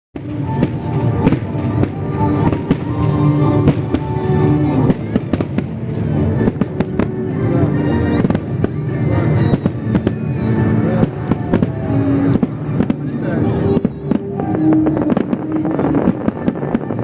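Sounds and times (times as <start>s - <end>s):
fireworks bangs and crackles: 0.2s - 17.0s
music with long held notes: 0.2s - 17.0s.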